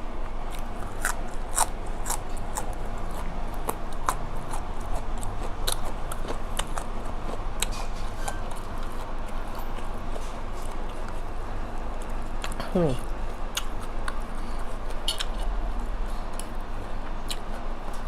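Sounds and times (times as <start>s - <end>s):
person chewing crunchy food: 0.1s - 18.0s.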